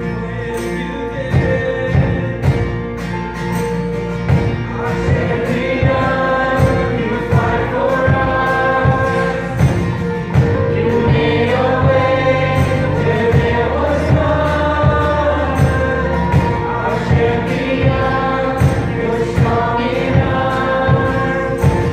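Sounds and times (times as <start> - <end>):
acoustic guitar chords: 0.0 - 21.9
keyboard chords: 0.0 - 21.9
drum beat: 4.3 - 21.9.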